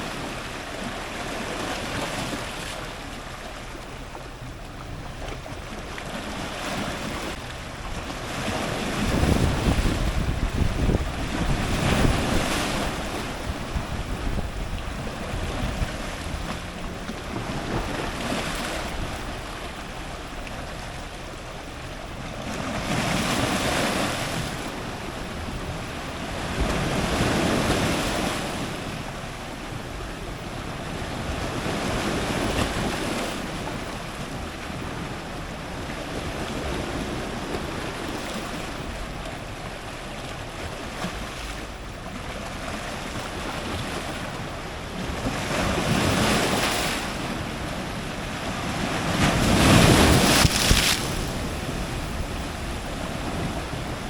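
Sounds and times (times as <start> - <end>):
ocean surf breaking on rocks: 0.0 - 54.0.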